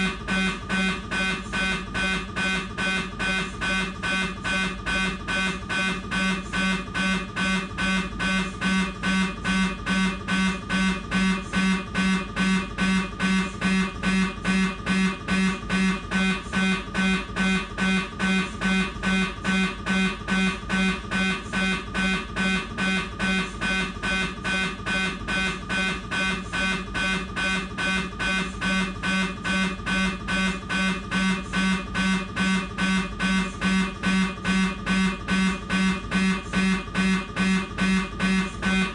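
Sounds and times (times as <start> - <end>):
mri scanner buzzing beep: 0.0 - 38.9.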